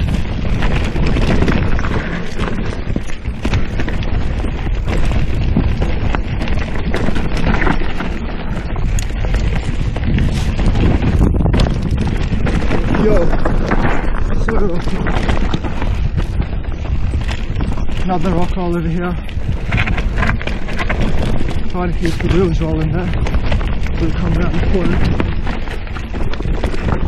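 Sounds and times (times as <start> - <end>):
bike rattling over bumps: 0.0 - 27.0
tyres crunching over dirt: 0.0 - 27.0
wind rush on microphone: 0.0 - 27.0.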